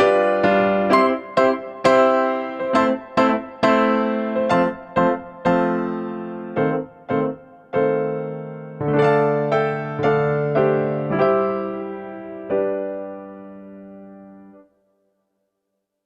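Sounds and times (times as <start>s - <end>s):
electric piano chords: 0.0s - 14.7s.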